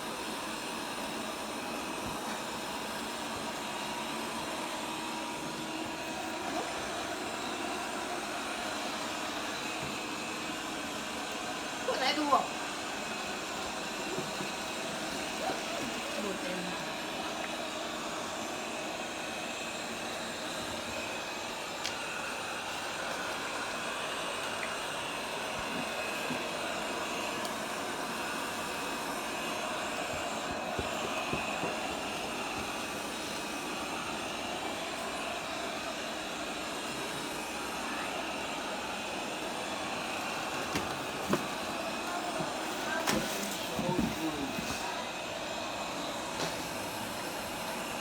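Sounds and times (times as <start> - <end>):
robot vacuum whirring: 0.2 - 48.0.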